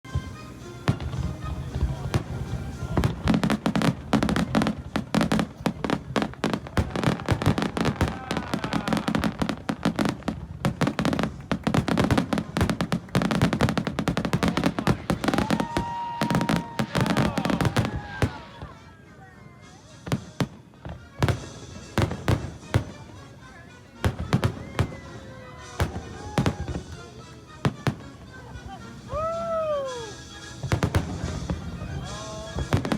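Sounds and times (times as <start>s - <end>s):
fireworks bursts and crackling: 0.1s - 32.9s.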